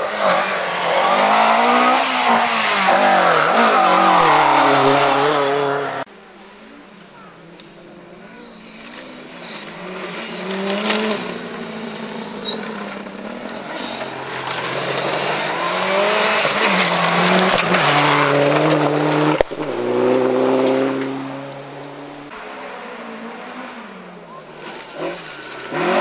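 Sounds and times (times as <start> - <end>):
rally car engine passing by: 0.0 - 6.1, 7.1 - 26.0.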